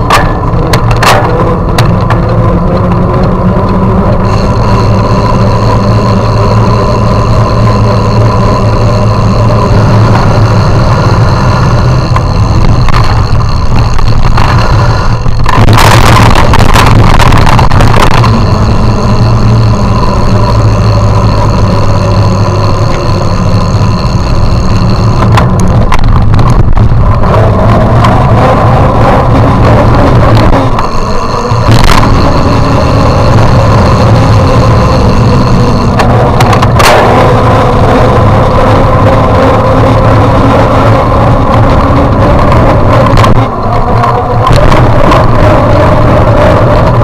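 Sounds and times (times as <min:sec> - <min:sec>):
rushing noise: 0:00.0 - 0:47.0
small vehicle motor drone: 0:00.0 - 0:47.0.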